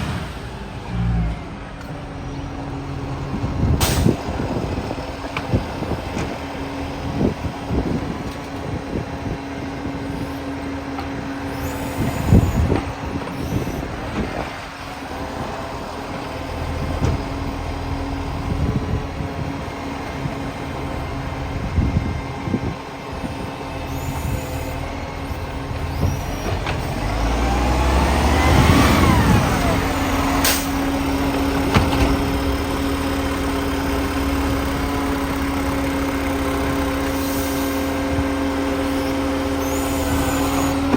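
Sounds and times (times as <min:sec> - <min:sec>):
garbage truck diesel engine running: 0:00.0 - 0:40.9.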